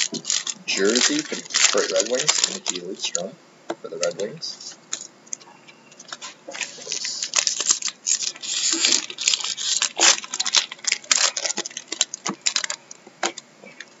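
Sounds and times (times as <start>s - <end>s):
trading cards rustling and clicking: 0.0s - 3.3s, 4.0s - 13.9s.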